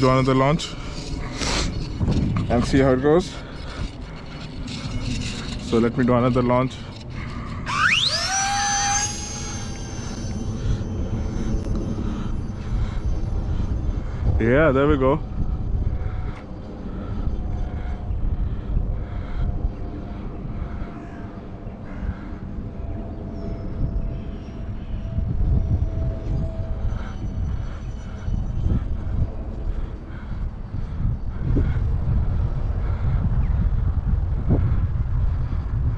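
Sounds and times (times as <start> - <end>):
electric ducted fans whining: 0.0 - 35.9
wind noise on microphone: 0.0 - 35.9.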